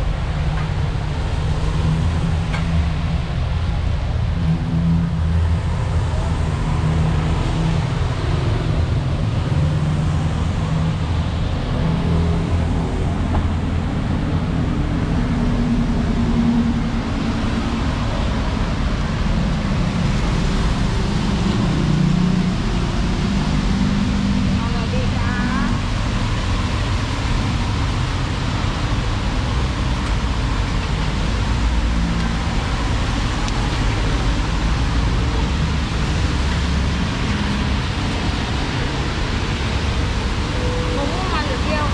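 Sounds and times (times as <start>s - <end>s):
road traffic rumble: 0.0s - 41.9s
vehicle engines passing: 0.0s - 41.9s.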